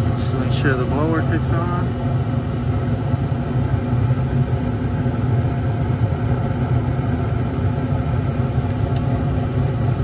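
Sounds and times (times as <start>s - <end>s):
furnace inducer motor humming: 0.0s - 10.0s.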